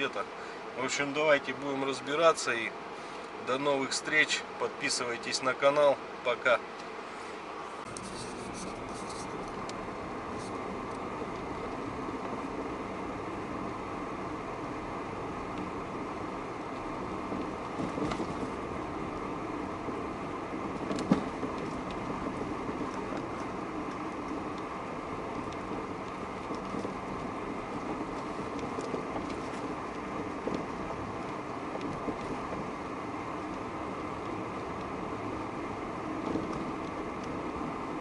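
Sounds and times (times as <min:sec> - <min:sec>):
road and tyre noise in car: 0:00.0 - 0:38.0.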